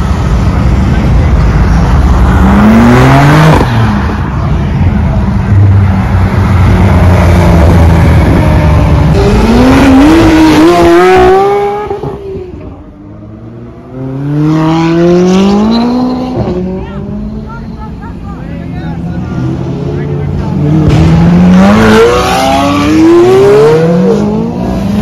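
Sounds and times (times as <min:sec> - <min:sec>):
car engines accelerating hard: 0:00.0 - 0:25.0.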